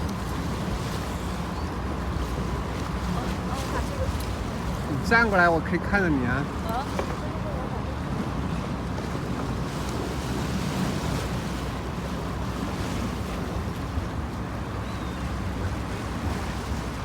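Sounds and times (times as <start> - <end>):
water rushing past hull: 0.0 - 17.0.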